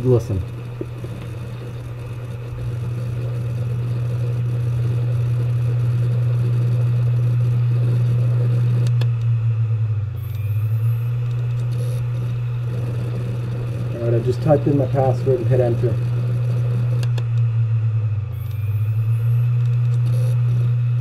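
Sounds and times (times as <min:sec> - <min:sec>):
hard drive humming: 0:00.0 - 0:21.0.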